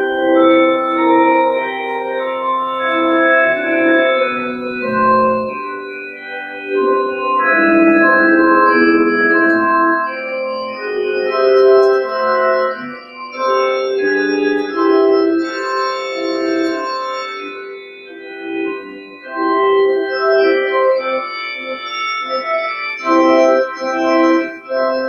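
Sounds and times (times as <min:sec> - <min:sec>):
organ playing held chords: 0:00.0 - 0:25.0.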